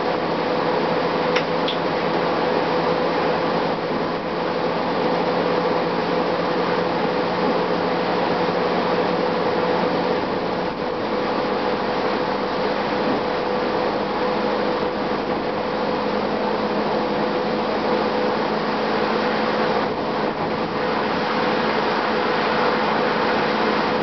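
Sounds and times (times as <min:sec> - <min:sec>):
bus interior running noise: 0:00.0 - 0:24.0
mid-pitched hum: 0:00.0 - 0:24.0.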